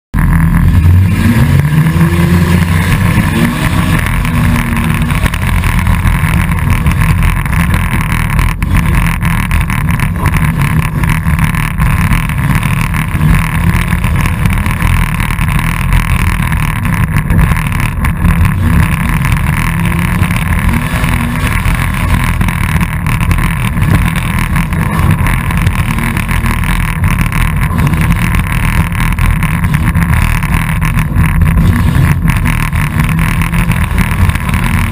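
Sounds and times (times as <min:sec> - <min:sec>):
race car engine revving: 0:00.2 - 0:34.9.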